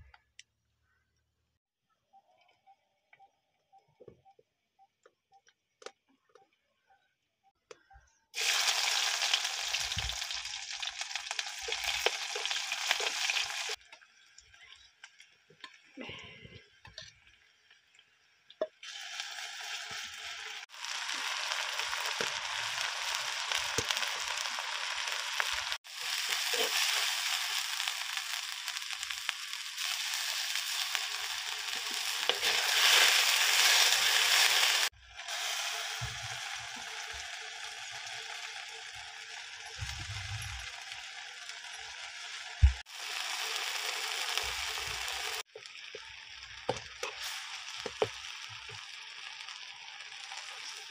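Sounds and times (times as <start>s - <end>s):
food sizzling in hot oil: 8.4s - 50.9s.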